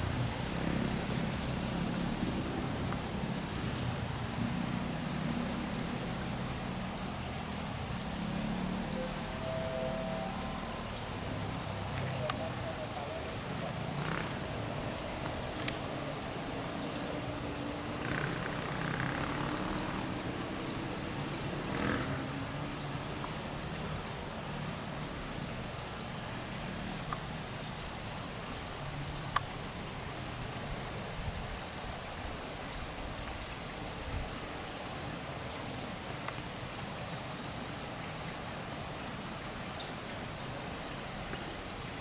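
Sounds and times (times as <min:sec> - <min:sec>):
rainwater rushing: 0:00.0 - 0:42.0.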